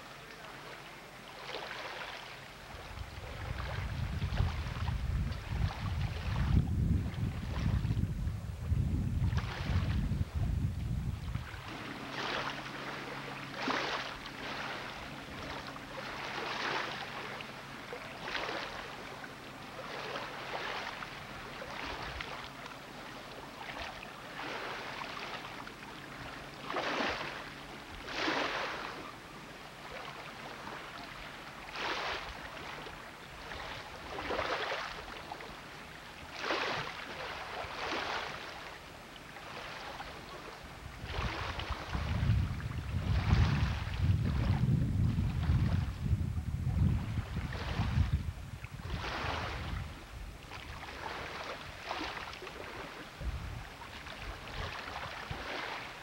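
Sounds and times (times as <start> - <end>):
small waves splashing on posts: 0.0 - 8.1, 9.2 - 10.5, 11.1 - 56.0.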